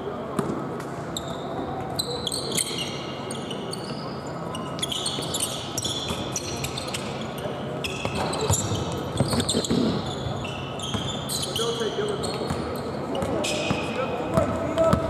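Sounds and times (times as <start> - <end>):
shoes squeaking on hardwood court: 0.4 - 15.0.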